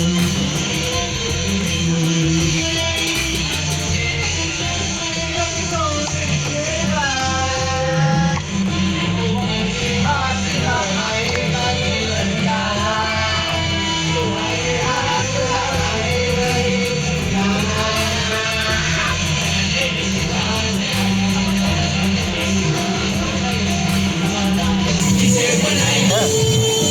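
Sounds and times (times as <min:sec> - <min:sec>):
steady bass line: 0:00.0 - 0:26.9
strummed guitar: 0:00.0 - 0:26.9.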